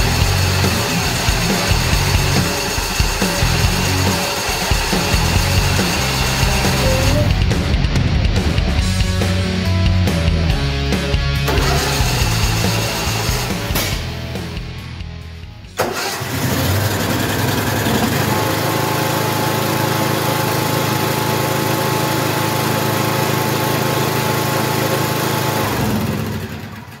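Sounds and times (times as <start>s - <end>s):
mower engine running: 0.0s - 9.4s, 11.4s - 14.1s, 15.8s - 27.0s.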